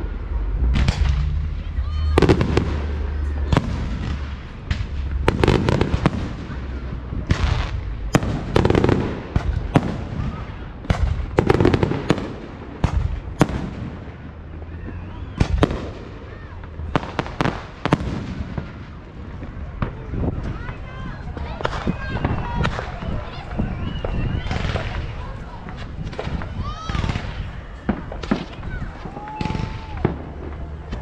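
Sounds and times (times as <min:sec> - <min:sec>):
fireworks bursting: 0:00.0 - 0:31.0
fireworks crackling: 0:00.0 - 0:31.0.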